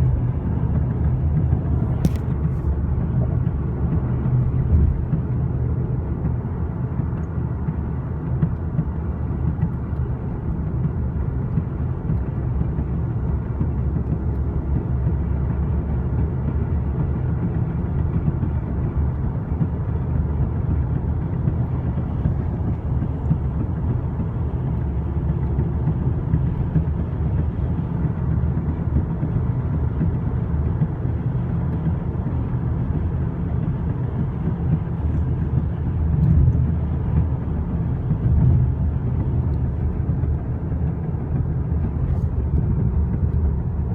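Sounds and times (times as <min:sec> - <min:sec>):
tyre and road noise drone: 0:00.0 - 0:43.9.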